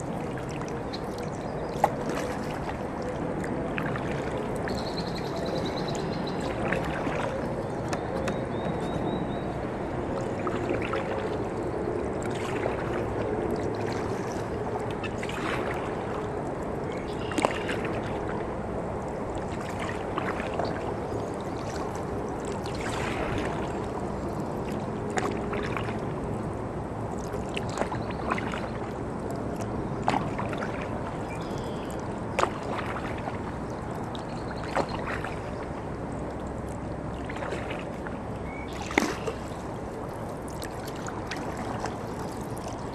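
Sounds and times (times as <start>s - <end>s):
paddle splashing water: 0.0s - 42.9s.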